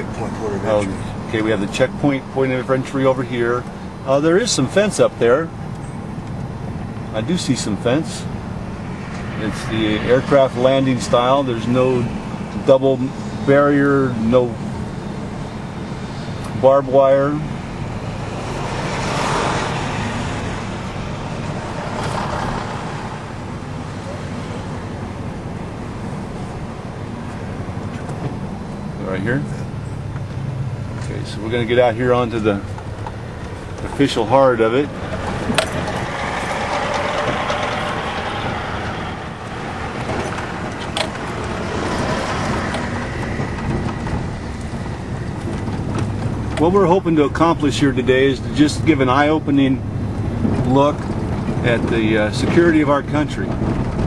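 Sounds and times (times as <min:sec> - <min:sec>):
car cabin engine and road noise: 0:00.0 - 0:54.0
trucks passing alongside: 0:00.0 - 0:54.0.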